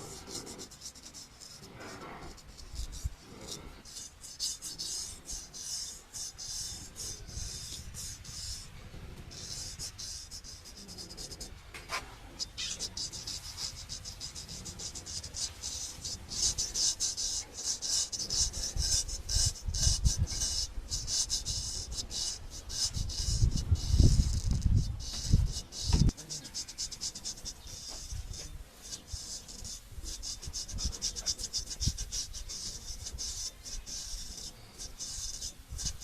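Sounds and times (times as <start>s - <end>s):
razor scraping stubble: 0.0s - 36.0s.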